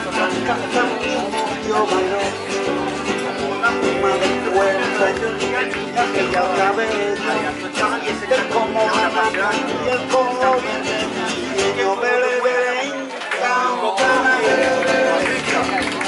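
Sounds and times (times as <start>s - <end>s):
acoustic guitars strumming: 0.0s - 16.0s.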